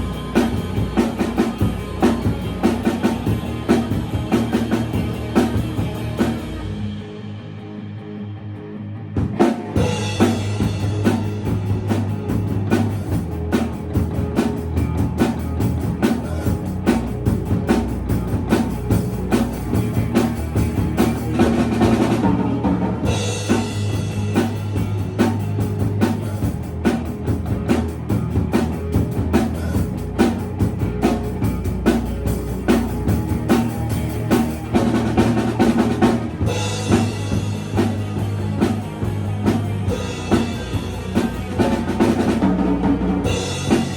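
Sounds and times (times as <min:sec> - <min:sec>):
live band playing: 0:00.0 - 0:07.2, 0:09.2 - 0:43.9
low bass notes: 0:00.0 - 0:43.9.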